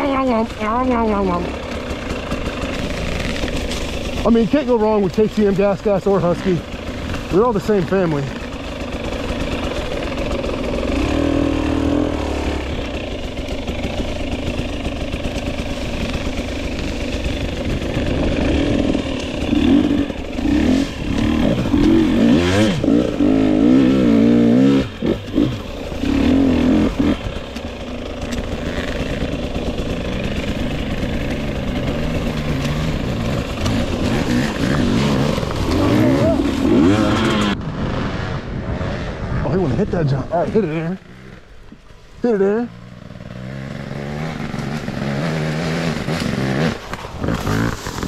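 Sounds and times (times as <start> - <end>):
two-stroke dirt bike engine: 0.0 - 48.0.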